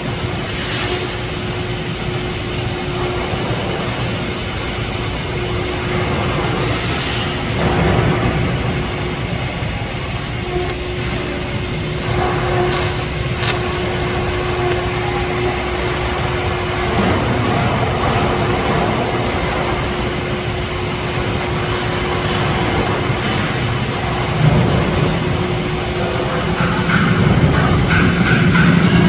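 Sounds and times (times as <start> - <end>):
machine running with hum: 0.0 - 29.0.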